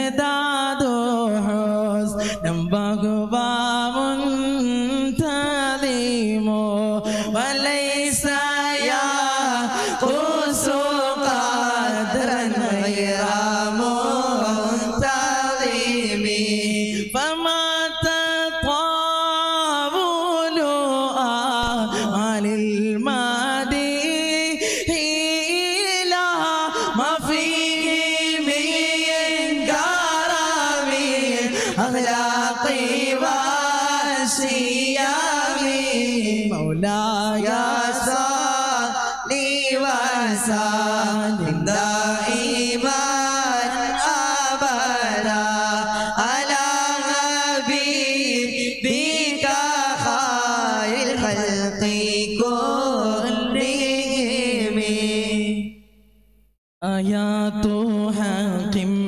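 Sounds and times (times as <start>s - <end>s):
men chanting devotional song: 0.0s - 55.8s, 56.8s - 59.0s.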